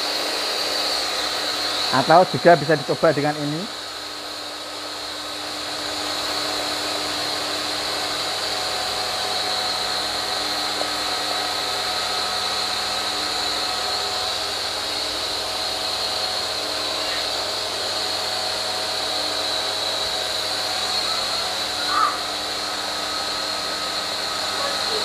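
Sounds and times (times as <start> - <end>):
pressure washer motor whining: 0.0 - 25.0.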